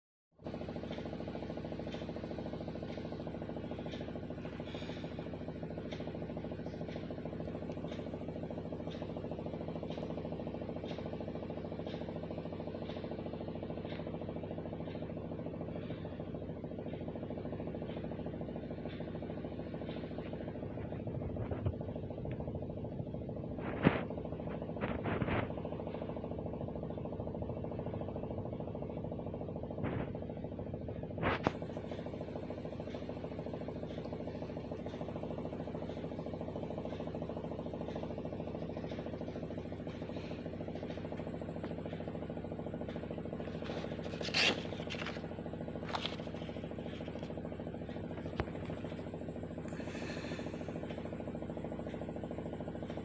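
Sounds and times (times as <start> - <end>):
motor humming: 0.4 - 53.0.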